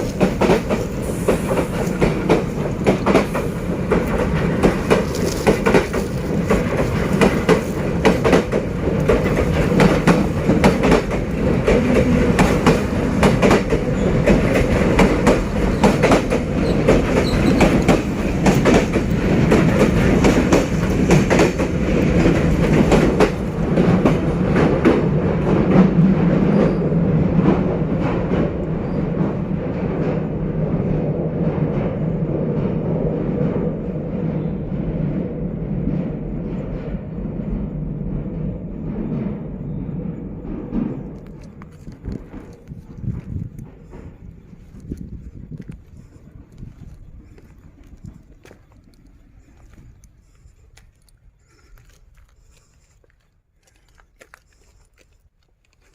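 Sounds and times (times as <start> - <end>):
diesel locomotive engine drone: 0.0 - 55.9
train wheels clicking on rail joints: 0.0 - 55.9.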